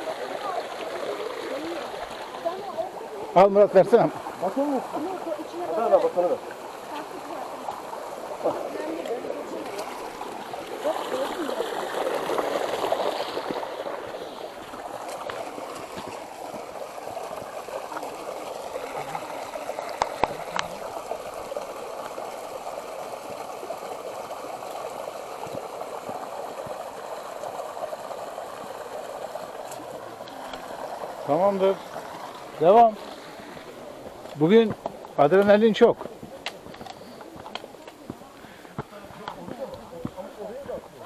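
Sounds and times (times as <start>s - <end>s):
creek water splashing over rocks: 0.0s - 41.0s.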